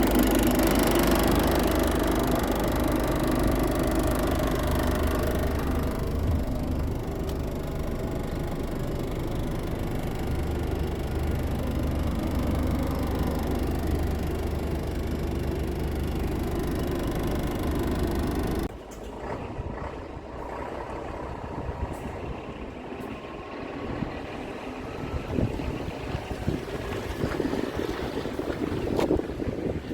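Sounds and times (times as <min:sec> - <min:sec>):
low engine-like drone: 0:00.0 - 0:29.4
rough rumbling noise: 0:00.0 - 0:29.9.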